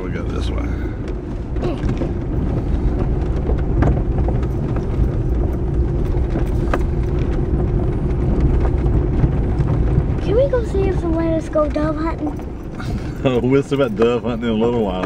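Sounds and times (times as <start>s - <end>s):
car driving on dirt track: 0.0s - 15.0s.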